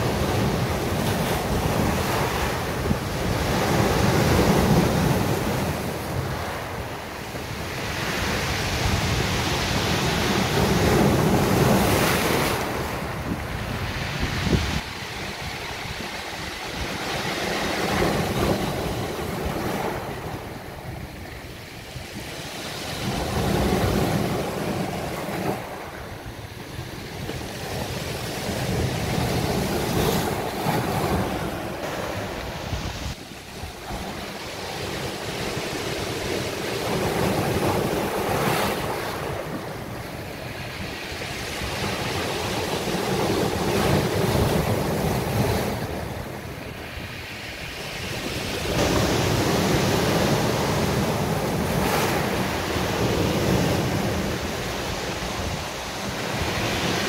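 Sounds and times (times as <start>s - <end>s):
surf breaking on a beach: 0.0s - 57.0s.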